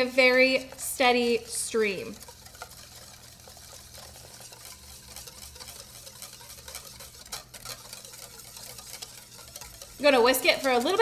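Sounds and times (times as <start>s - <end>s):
whisk beating in a bowl: 0.0s - 11.0s.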